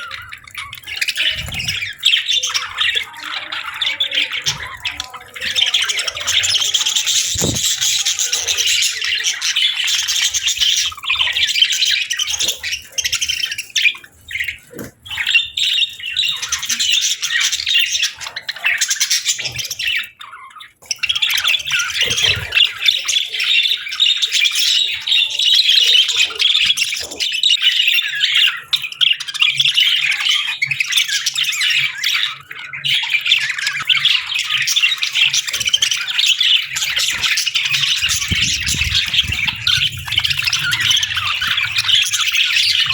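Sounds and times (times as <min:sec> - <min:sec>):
budgerigars chirping: 0:00.0 - 0:42.9.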